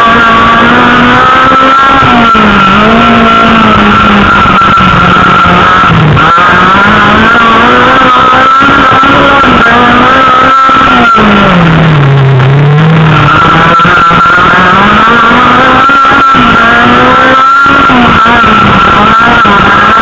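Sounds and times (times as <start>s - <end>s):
car engine revving hard: 0.0s - 20.0s.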